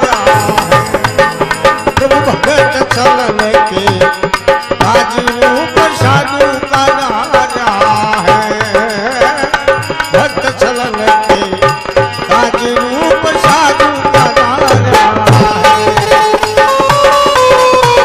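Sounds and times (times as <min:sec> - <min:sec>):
hand drum rhythm: 0:00.0 - 0:18.0
harmonium melody: 0:00.0 - 0:18.0.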